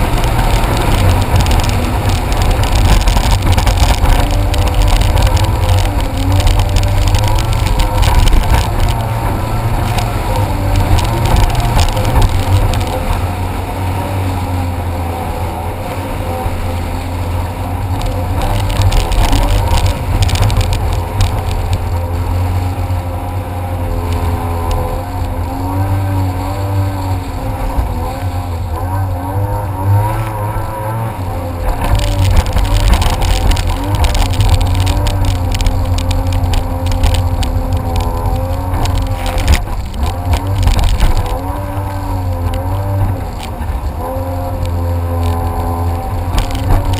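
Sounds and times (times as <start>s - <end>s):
jet ski engine: 0.0s - 46.9s
rushing water and wind: 0.0s - 46.9s.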